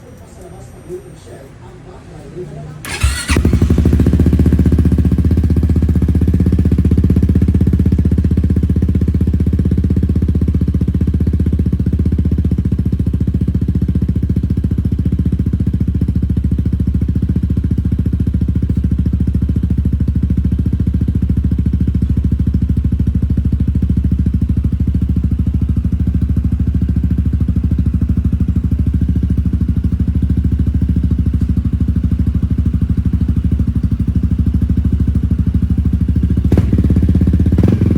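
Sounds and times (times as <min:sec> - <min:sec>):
scooter engine idling: 0:02.8 - 0:37.9.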